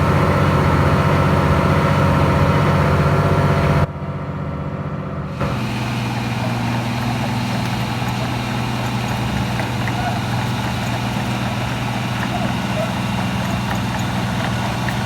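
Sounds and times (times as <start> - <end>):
diesel engine idling: 0.0 - 3.9, 5.3 - 15.0.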